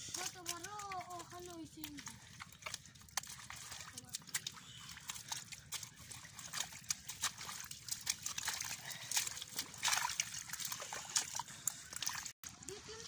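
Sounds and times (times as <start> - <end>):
hoe squelching through wet mud: 0.0 - 13.0.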